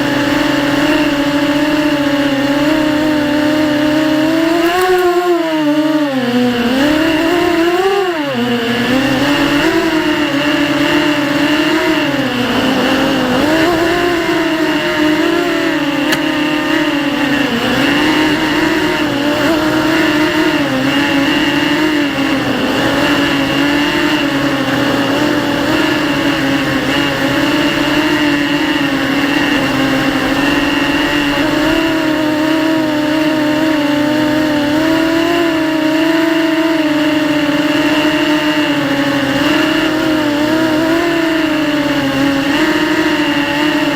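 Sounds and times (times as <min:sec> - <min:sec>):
quadcopter motors whining: 0:00.0 - 0:43.9.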